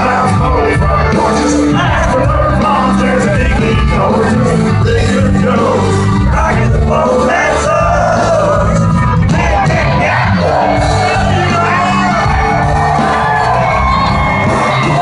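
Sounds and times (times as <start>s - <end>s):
country band playing: 0.0s - 15.0s
crowd shouting and whooping: 0.0s - 15.0s
man singing lead vocal: 0.0s - 15.0s.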